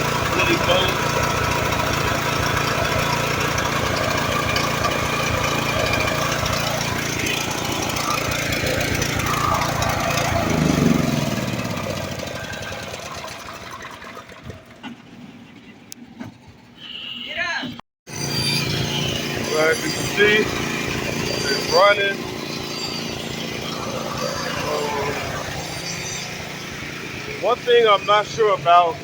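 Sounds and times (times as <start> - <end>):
generator engine running: 0.0 - 16.8, 18.1 - 29.0.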